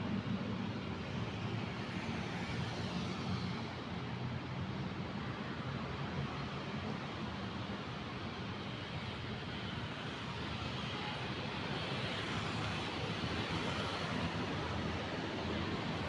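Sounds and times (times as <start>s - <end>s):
city road traffic hum: 0.0s - 16.0s.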